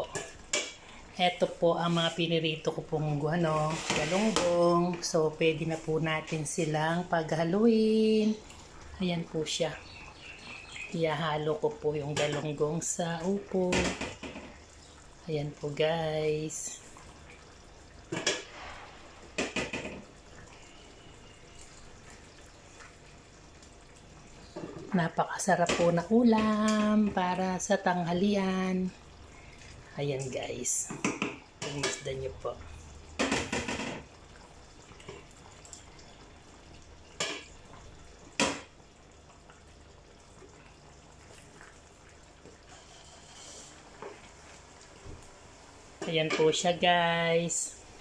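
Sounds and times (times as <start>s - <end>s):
faint steady background noise: 0.0s - 48.0s
stew bubbling in pot: 0.0s - 48.0s.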